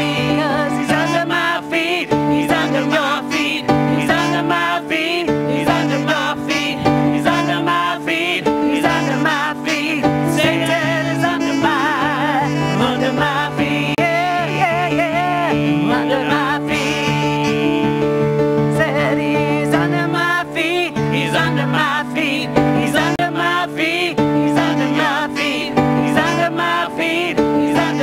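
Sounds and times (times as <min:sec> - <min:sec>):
man and woman singing: 0:00.0 - 0:28.0
sustained keyboard chords: 0:00.0 - 0:28.0.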